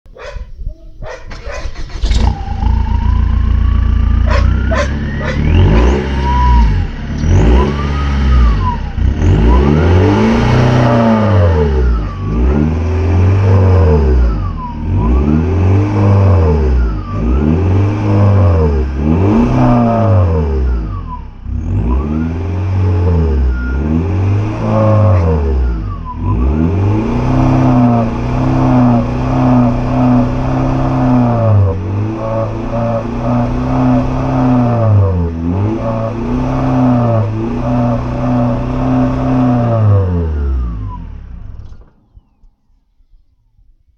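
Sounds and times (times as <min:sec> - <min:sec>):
car engine revving: 0:01.1 - 0:42.0.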